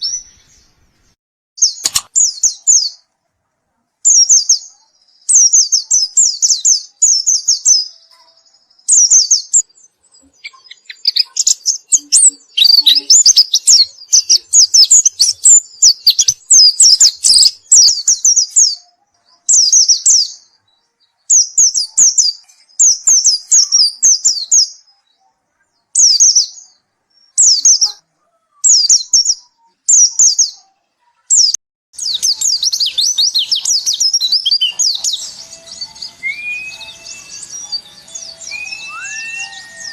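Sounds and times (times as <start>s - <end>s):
bird singing warbling phrases: 0.0s - 3.2s, 4.0s - 39.9s.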